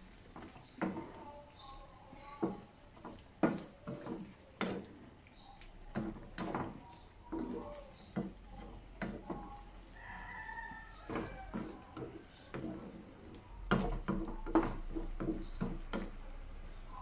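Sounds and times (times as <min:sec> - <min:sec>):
wooden spatula scraping a pan: 0:00.0 - 0:16.2.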